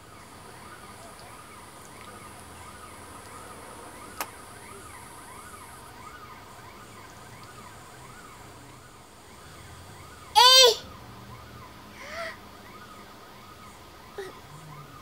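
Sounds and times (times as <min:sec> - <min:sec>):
distant siren wailing: 0:00.0 - 0:15.0.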